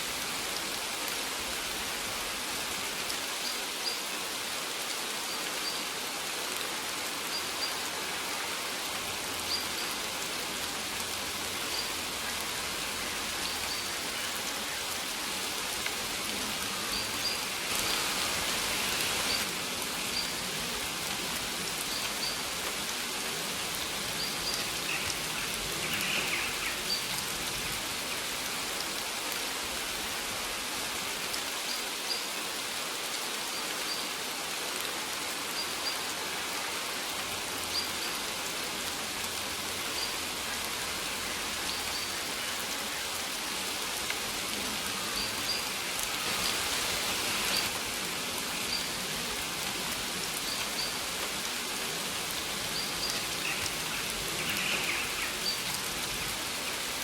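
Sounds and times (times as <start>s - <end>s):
steady rain hissing: 0.0s - 57.0s.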